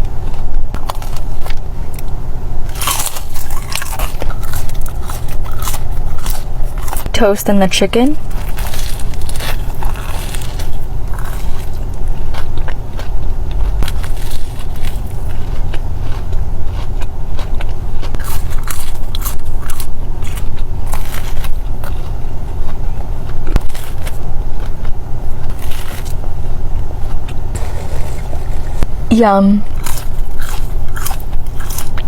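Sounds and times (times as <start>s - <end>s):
chewing crunchy food: 0.0s - 7.2s, 8.0s - 26.4s, 29.7s - 32.0s
steady low rumble: 0.0s - 32.0s.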